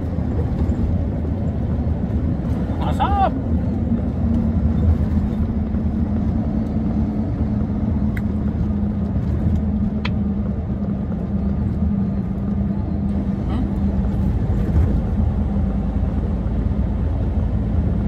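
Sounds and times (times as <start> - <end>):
road noise inside cab: 0.0 - 18.0
truck diesel engine drone: 0.0 - 18.0.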